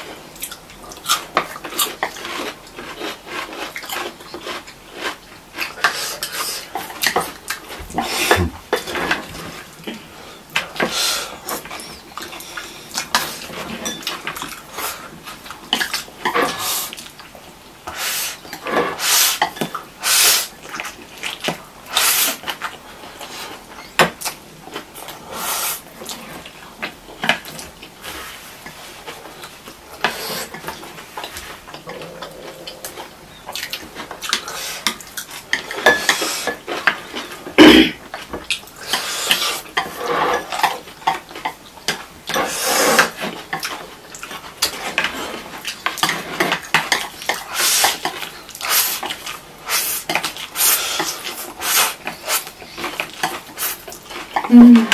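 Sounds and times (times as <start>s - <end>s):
noodles slurped and chewed: 0.3s - 17.3s, 24.2s - 54.7s.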